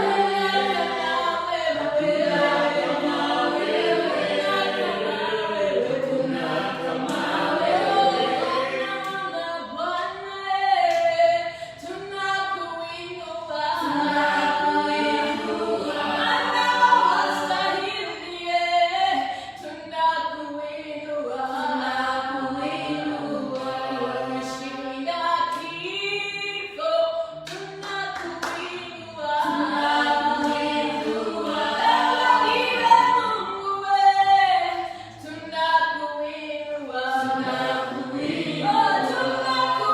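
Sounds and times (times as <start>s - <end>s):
group singing in harmony: 0.0s - 39.9s.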